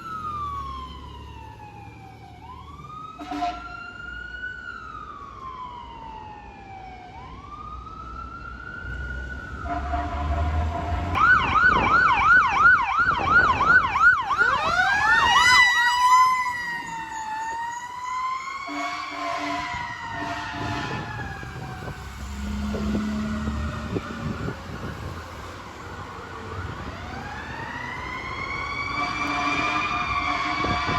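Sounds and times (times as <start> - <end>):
emergency vehicle siren: 0.0 - 30.9.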